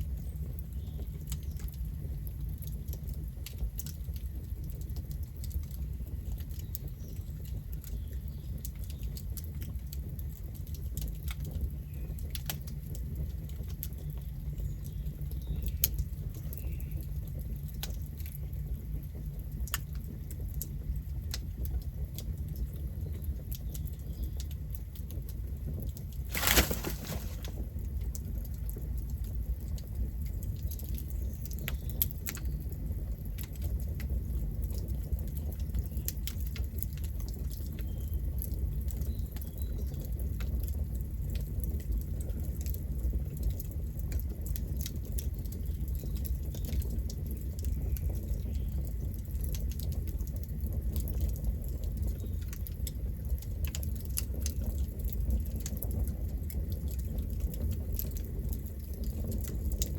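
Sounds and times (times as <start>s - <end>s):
campfire crackling: 0.0s - 37.5s, 42.2s - 59.9s.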